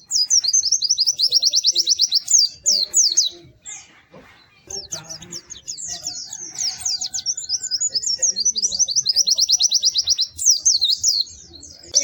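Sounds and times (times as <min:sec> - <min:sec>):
bird chirping and trilling: 0:00.0 - 0:12.0.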